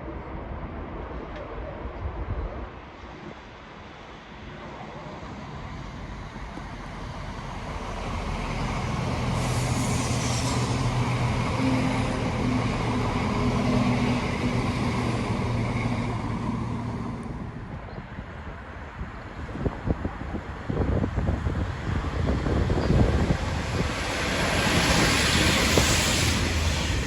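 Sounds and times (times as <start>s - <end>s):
diesel train passing: 2.7s - 27.0s.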